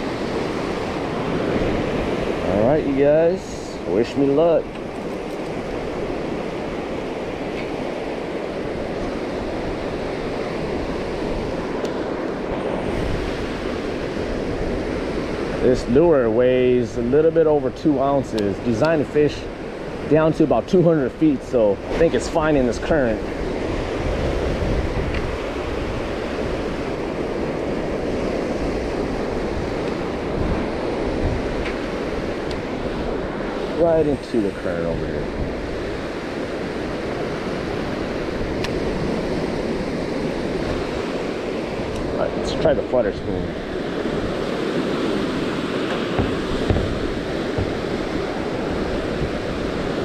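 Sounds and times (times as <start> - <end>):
rushing water: 0.0 - 50.0
wind buffeting microphone: 0.0 - 50.0.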